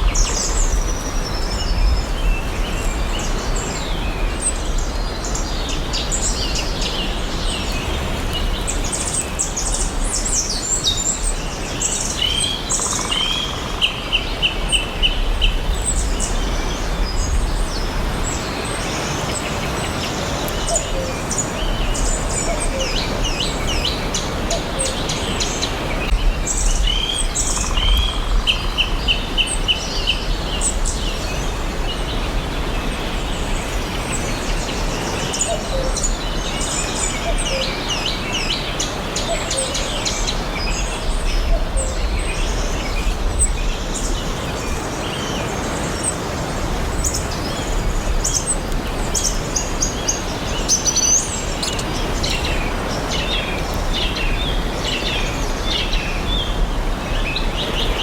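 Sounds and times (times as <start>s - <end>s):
background hiss: 0.0s - 58.0s
songbirds chirping and singing: 0.0s - 58.0s.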